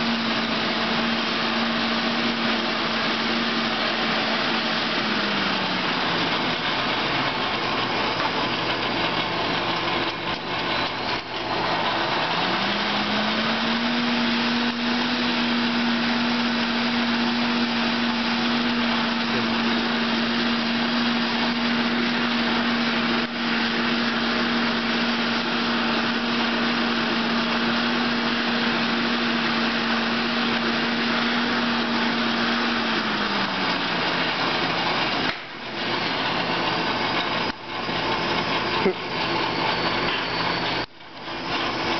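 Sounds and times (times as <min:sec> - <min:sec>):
air blasting through coal fire: 0:00.0 - 0:41.9
forge blower whine: 0:00.0 - 0:41.9.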